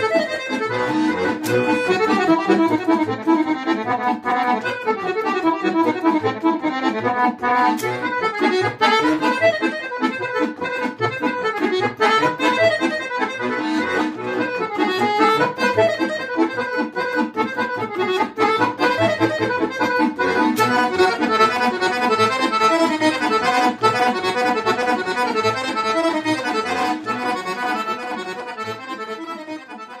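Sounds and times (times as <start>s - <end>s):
fast accordion solo: 0.0s - 30.0s.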